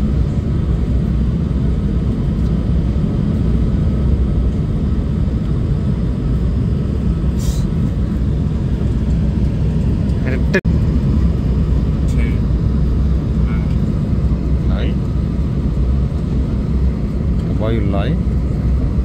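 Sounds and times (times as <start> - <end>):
jet engine and airflow rumble: 0.0 - 19.0.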